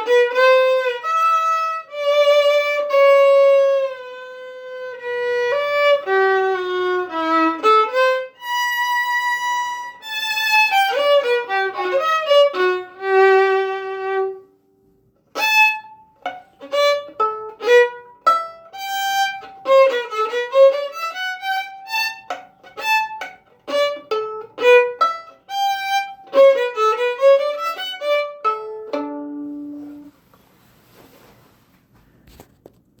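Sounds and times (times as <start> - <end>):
solo violin playing: 0.0 - 30.2.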